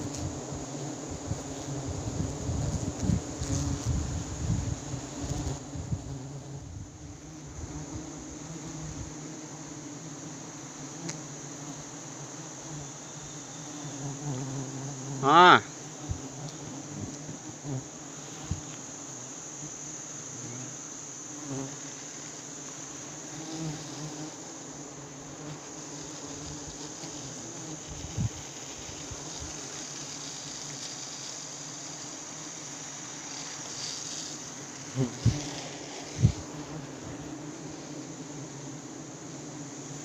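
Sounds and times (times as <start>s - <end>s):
bees buzzing: 0.0s - 40.0s
high-pitched insect drone: 0.0s - 40.0s.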